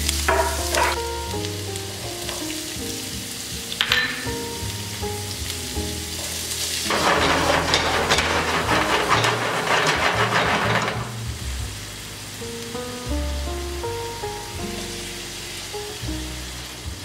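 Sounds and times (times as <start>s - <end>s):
gentle background music: 0.0s - 8.1s, 11.2s - 17.0s
food sizzling in frying pan: 0.0s - 17.0s.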